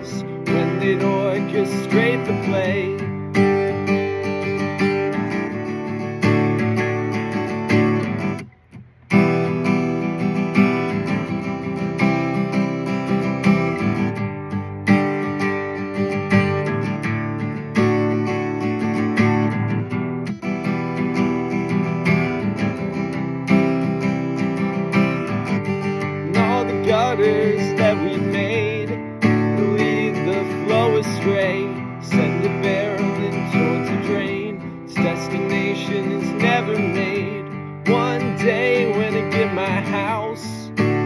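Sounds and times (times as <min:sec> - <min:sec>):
acoustic guitar strumming chords: 0:00.0 - 0:41.0.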